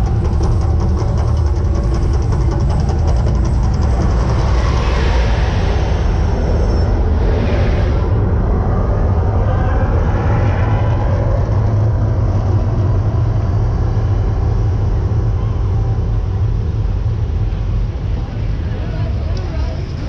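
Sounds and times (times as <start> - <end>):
deep rumble with roaring: 0.0 - 20.0.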